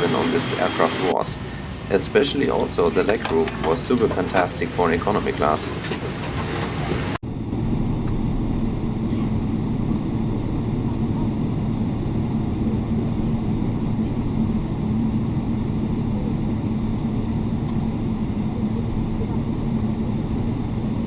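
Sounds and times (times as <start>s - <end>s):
aircraft cabin rumble: 0.0s - 21.0s
steady low hum: 0.0s - 21.0s.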